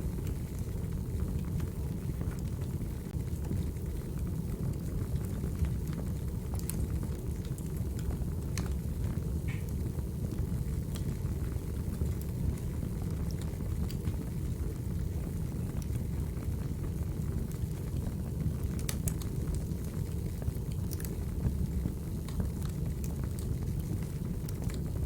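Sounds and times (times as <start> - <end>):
firewood crackling: 0.2 - 25.0.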